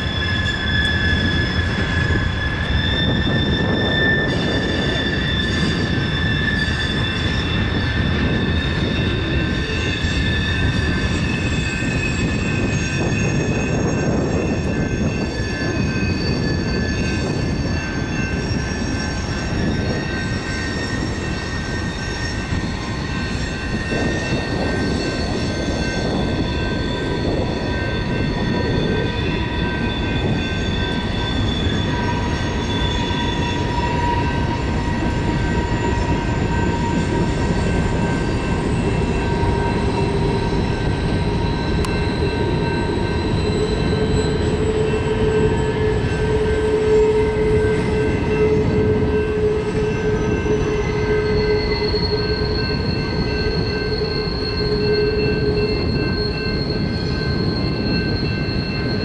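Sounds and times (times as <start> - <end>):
high-pitched wheel squeal: 0.0 - 59.0
train cars rumbling on rails: 0.0 - 59.0.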